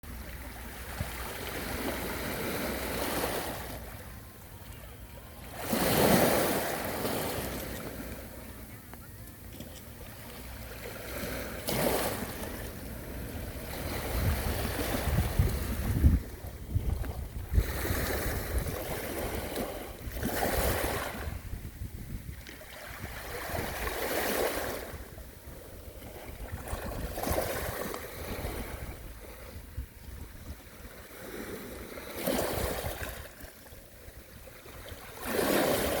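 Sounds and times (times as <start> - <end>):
sea waves washing ashore: 0.0 - 36.0.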